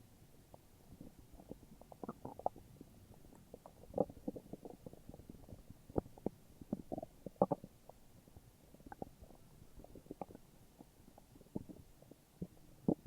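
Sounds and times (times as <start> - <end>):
stomach growling: 0.4 - 13.0.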